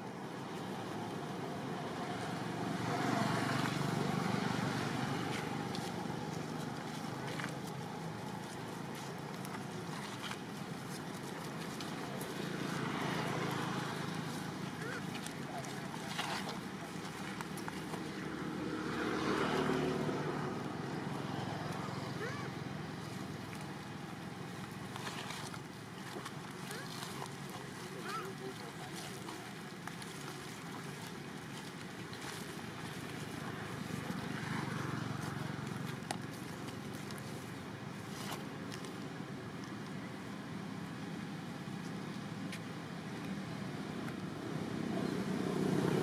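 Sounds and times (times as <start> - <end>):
outdoor background noise: 0.0 - 46.0
motor vehicle passing: 0.6 - 38.4, 44.4 - 46.0.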